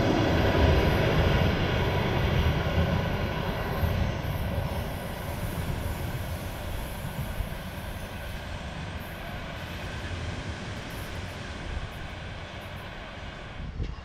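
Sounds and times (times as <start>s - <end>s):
train rumble: 0.0s - 14.0s
wind buffeting microphone: 0.0s - 14.0s.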